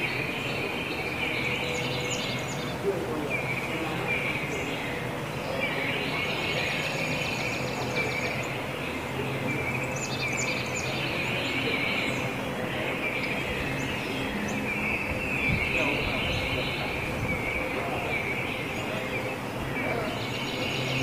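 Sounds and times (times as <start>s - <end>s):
birds singing and chirping: 0.0s - 21.0s
low outdoor hum: 0.0s - 21.0s.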